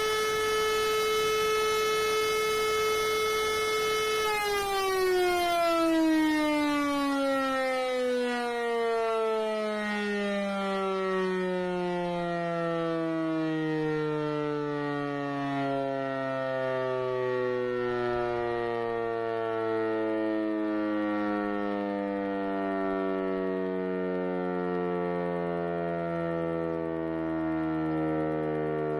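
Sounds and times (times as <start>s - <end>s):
siren howling with falling pitch: 0.0s - 28.9s.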